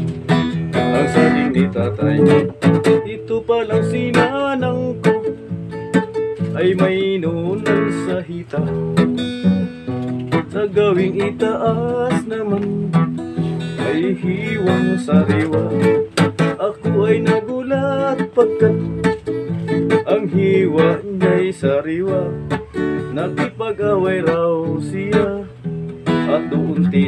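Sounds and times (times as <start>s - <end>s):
acoustic guitar strumming: 0.0s - 27.0s
man singing: 0.5s - 27.0s.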